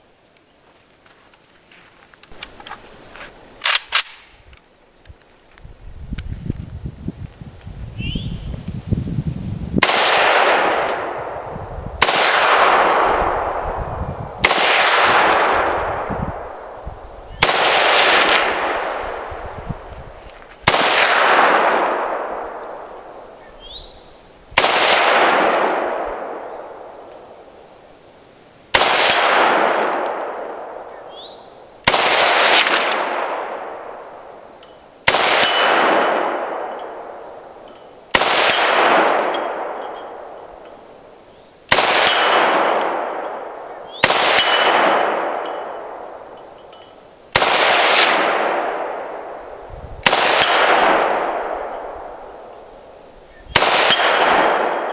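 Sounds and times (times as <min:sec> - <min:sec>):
rifle shots with long echo: 0:03.6 - 0:04.4, 0:09.8 - 0:19.9, 0:20.6 - 0:27.7, 0:28.7 - 0:54.9.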